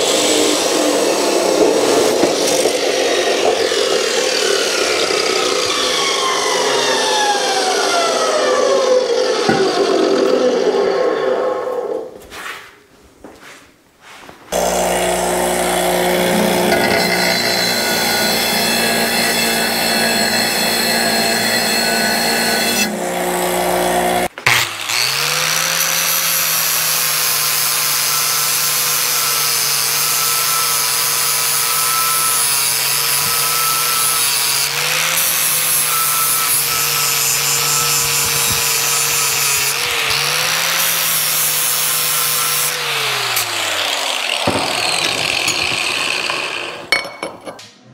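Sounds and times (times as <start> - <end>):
chop saw cutting steel pipe: 0.0 - 10.8, 14.5 - 47.0
angle grinder grinding steel: 0.0 - 12.1, 14.5 - 47.1.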